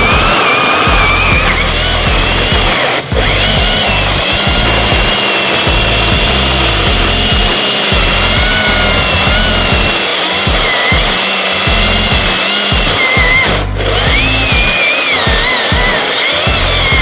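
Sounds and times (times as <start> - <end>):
background music: 0.0 - 17.0
chainsaw cutting wood: 0.0 - 17.0.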